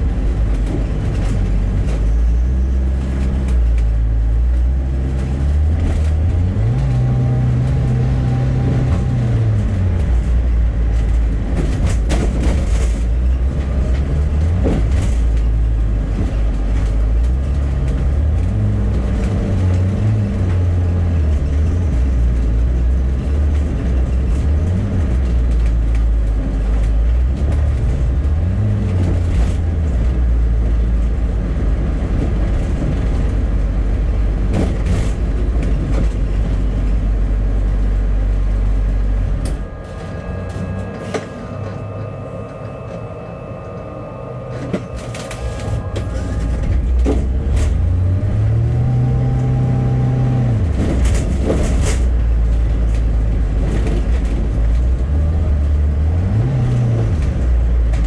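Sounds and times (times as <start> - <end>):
bus engine: 0.0 - 58.0
road noise: 0.0 - 58.0.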